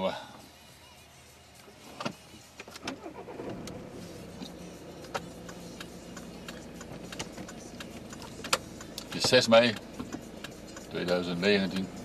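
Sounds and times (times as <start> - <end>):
car engine starting and idling: 0.2 - 12.0.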